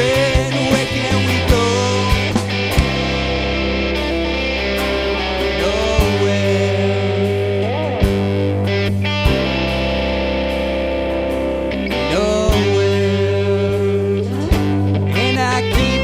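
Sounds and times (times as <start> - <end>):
drum kit: 0.0 - 16.0
electric bass: 0.0 - 16.0
electric guitars: 0.0 - 16.0.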